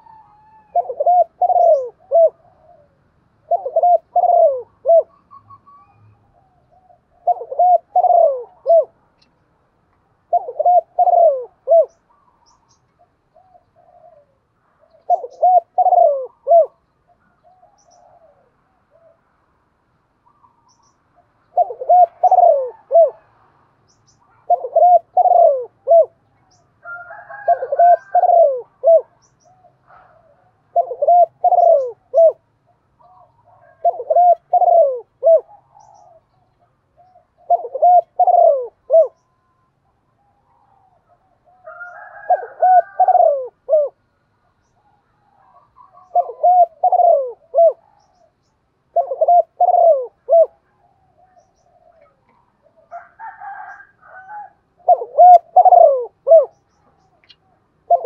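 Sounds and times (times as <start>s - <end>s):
dove cooing: 0.0s - 9.1s, 10.1s - 19.3s, 20.2s - 23.6s, 24.2s - 44.0s, 44.8s - 58.0s.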